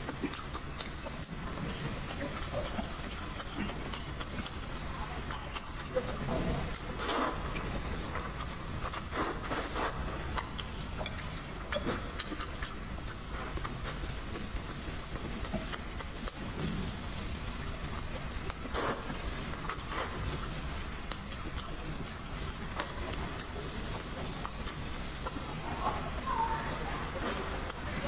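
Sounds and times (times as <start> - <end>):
slurping and chewing noodles: 0.0 - 16.6, 17.5 - 26.0, 27.0 - 28.0.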